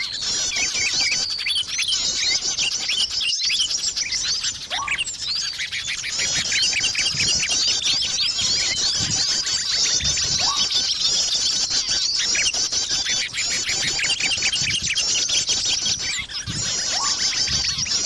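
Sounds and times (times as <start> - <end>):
chorus of small birds chirping: 0.0 - 18.0.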